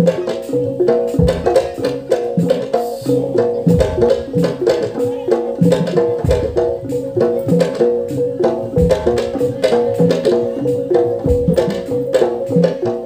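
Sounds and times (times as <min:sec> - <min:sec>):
hand drums: 0:00.0 - 0:13.0
repeating pitched percussion notes: 0:00.0 - 0:13.0.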